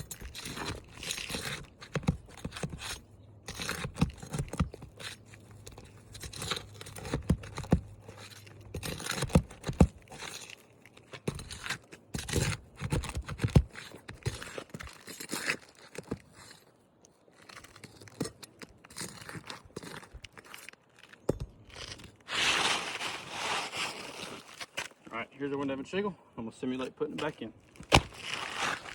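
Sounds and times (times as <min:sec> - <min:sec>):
roof shingles scraping and tearing: 0:00.0 - 0:25.1, 0:27.6 - 0:28.9.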